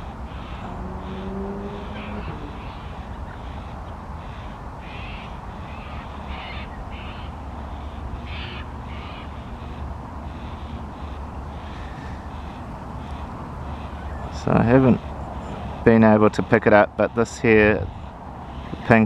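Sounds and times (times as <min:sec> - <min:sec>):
cockatoos begging calls: 0:00.0 - 0:19.0.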